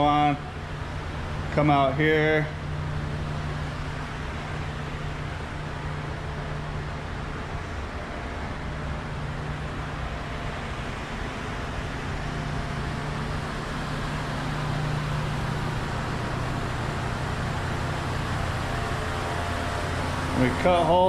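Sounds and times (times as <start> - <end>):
broad rushing noise: 0.0 - 21.0
low hum: 0.0 - 21.0
mechanical drone: 0.0 - 21.0.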